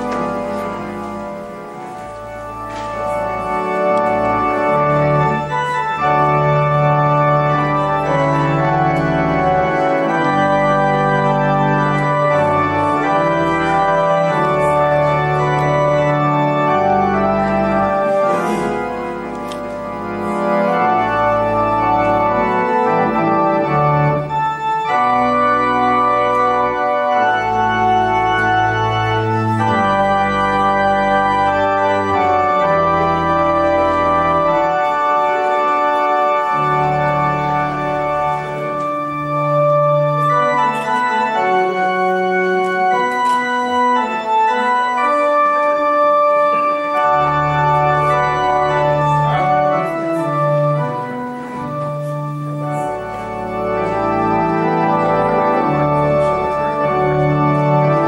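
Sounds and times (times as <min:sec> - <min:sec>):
church organ playing chords: 0:00.0 - 0:58.0.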